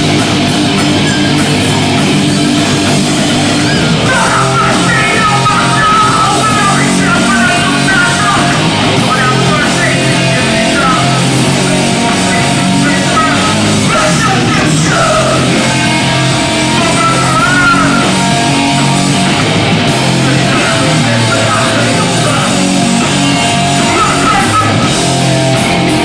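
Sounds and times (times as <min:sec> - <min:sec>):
punk band playing live: 0:00.0 - 0:26.0.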